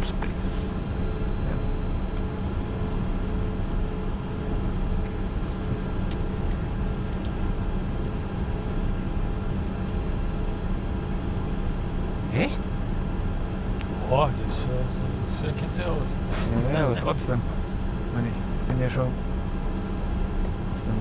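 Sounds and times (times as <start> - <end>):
jet cockpit rumble and hum: 0.0 - 21.0.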